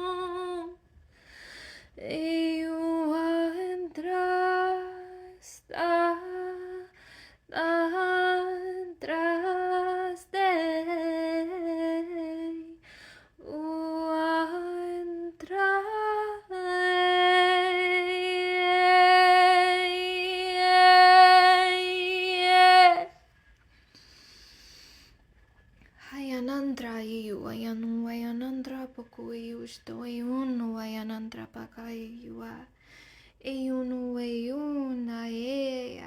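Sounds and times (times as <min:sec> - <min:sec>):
woman singing unaccompanied: 0:00.0 - 0:00.8, 0:02.0 - 0:12.8, 0:13.4 - 0:23.2, 0:26.0 - 0:32.8, 0:33.4 - 0:36.0.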